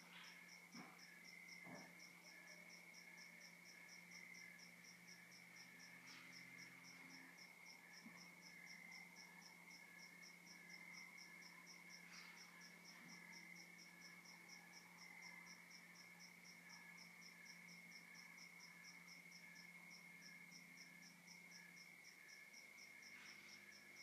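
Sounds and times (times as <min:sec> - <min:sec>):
continuous insect trill: 0:00.0 - 0:24.0.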